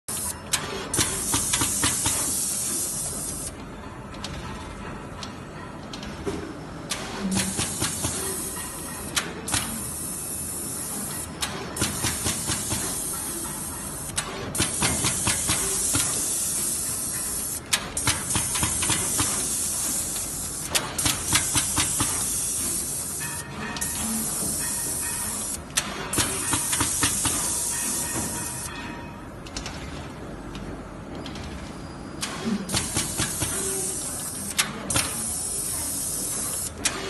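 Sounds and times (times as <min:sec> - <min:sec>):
sharp machine clicks: 0:00.1 - 0:03.6, 0:06.9 - 0:28.7, 0:32.2 - 0:37.0.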